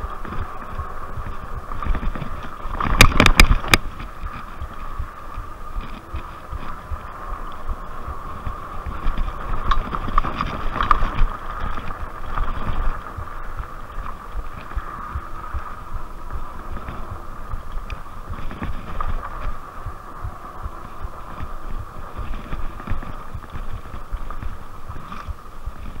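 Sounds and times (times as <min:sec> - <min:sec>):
tyres rumbling on dirt trail: 0:00.0 - 0:26.0
wind on microphone: 0:00.0 - 0:26.0.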